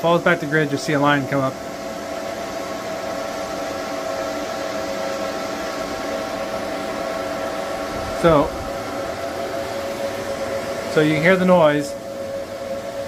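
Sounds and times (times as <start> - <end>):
cooling fans rushing: 0.0 - 13.0
multi-tone whine: 0.0 - 13.0.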